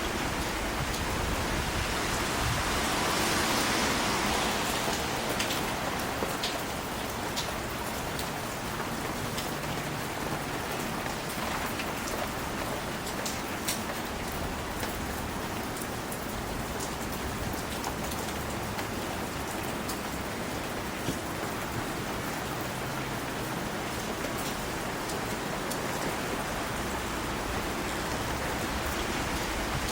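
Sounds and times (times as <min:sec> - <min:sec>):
steady rain hiss: 0:00.0 - 0:29.9
raindrops tapping: 0:04.3 - 0:29.9.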